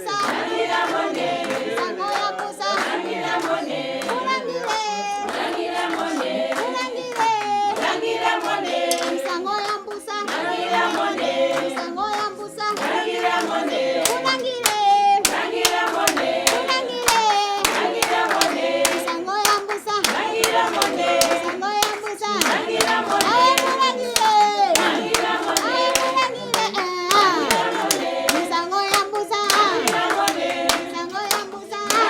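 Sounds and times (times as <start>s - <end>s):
group of voices singing: 0.0s - 32.0s
hand clapping: 0.0s - 32.0s.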